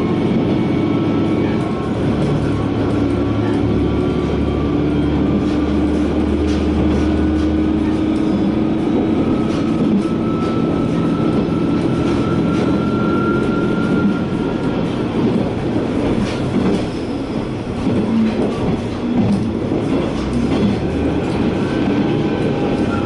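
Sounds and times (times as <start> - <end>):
railcar engine and wheels drone: 0.0 - 23.0
rail clicks: 0.1 - 23.0.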